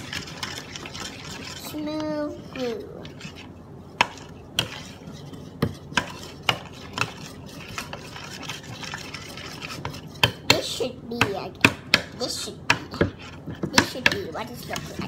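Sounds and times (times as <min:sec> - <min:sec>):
stirrers scraping thick glue: 0:00.0 - 0:10.9, 0:12.2 - 0:15.0
stirrers clinking against bowls: 0:00.0 - 0:15.0.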